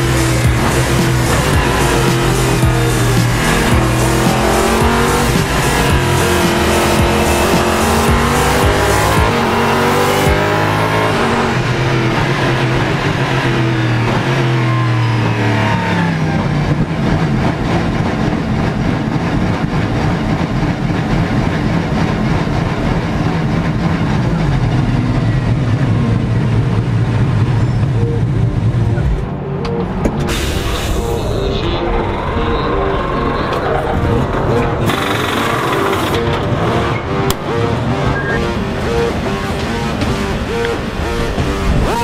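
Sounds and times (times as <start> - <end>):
race car engine downshifting: 0.0 - 42.0.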